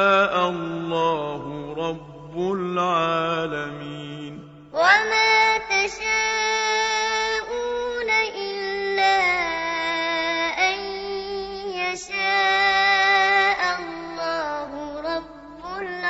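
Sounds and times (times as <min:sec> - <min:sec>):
melodic chanting voice: 0:00.0 - 0:16.0.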